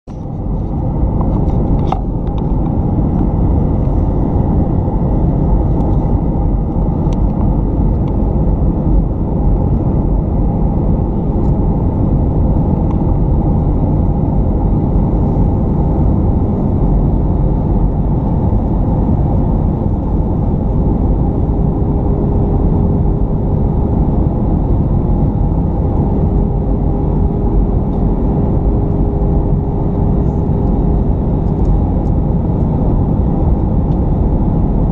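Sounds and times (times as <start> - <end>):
airliner cabin engine rush: 0.1 - 34.9.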